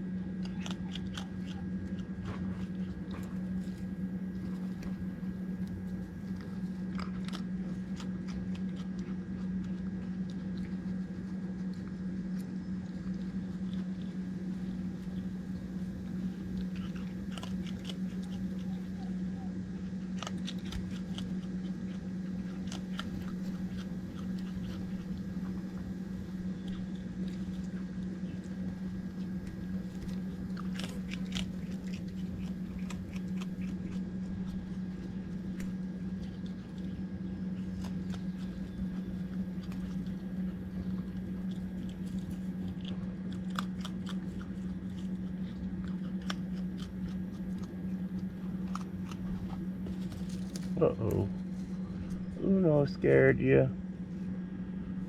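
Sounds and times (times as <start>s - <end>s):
raccoon chewing and crunching food: 0.0s - 55.0s
steady low hum: 0.0s - 55.0s.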